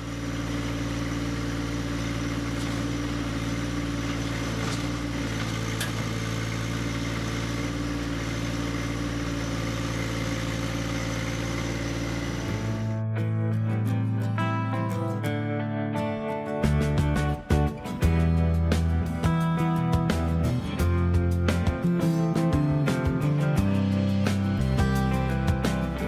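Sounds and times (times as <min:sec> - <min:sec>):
tractor diesel engine running: 0:00.0 - 0:13.1, 0:16.6 - 0:26.0.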